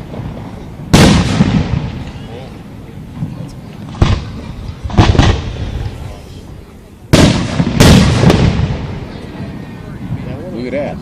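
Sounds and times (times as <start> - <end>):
fireworks bursting with echoing booms: 0.0 - 11.0.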